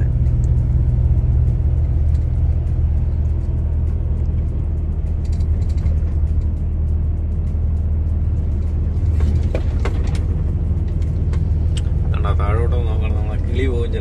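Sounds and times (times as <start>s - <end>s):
lorry engine droning: 0.0s - 14.0s.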